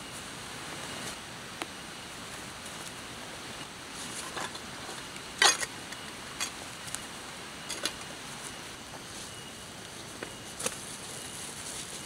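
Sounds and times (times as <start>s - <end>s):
rustling and scraping of camping gear: 0.0s - 1.2s, 2.2s - 12.0s.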